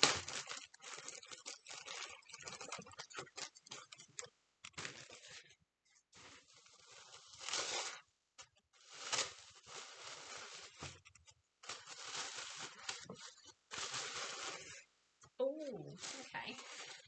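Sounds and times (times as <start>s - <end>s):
tissue paper crinkling: 0.0s - 4.1s, 4.7s - 17.0s.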